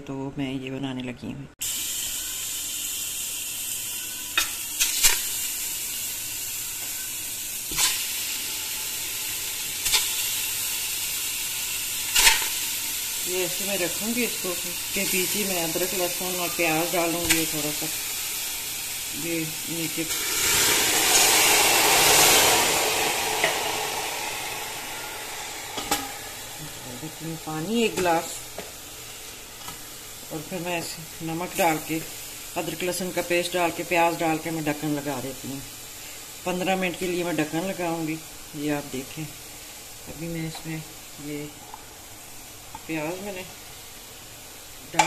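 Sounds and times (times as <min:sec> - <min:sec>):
steady hiss: 0:01.6 - 0:45.0.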